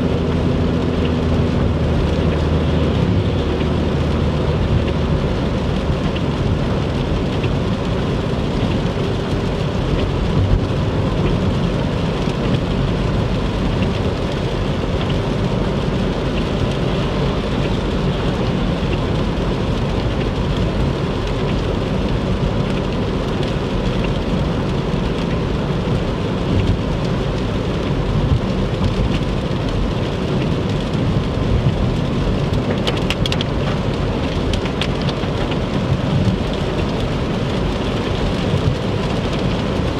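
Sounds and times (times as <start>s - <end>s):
heavy rain hitting a car: 0.0s - 39.9s
road and tyre noise: 0.0s - 39.9s.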